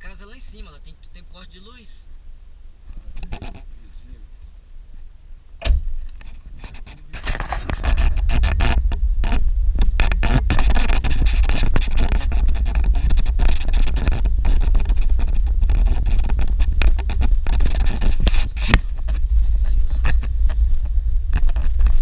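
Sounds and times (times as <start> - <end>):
vehicle rumble on rough road: 0.0 - 22.0.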